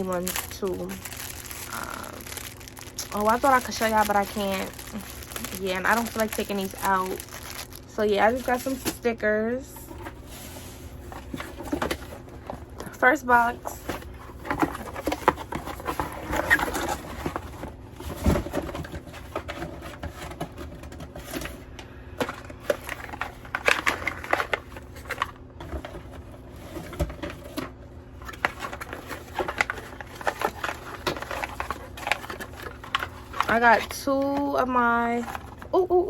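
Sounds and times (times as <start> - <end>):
packaging rustling and crinkling: 0.0 - 9.1, 9.8 - 21.6, 22.2 - 35.9.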